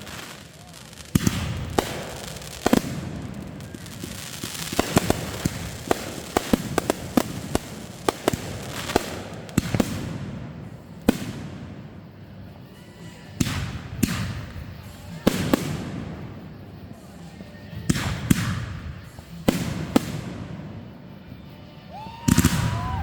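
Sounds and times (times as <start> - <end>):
fireworks bangs and pops: 0.0 - 12.3, 13.3 - 20.7, 22.2 - 23.0.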